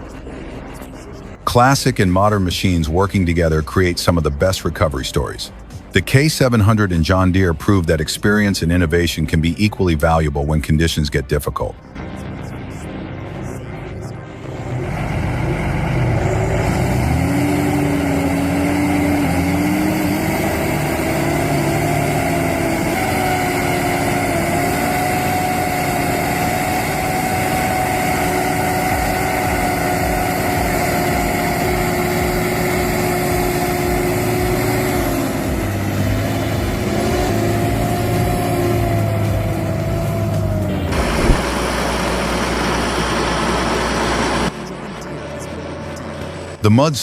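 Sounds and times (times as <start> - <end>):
vehicle engine running hard: 0.0 - 47.0.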